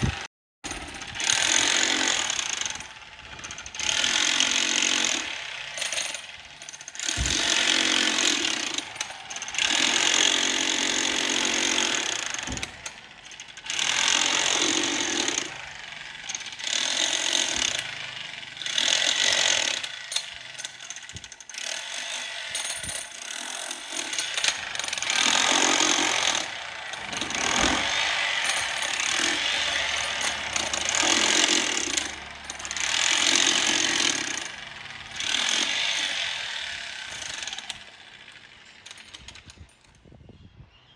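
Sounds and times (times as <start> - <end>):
construction tools harsh mechanical noise: 0.0 - 40.2.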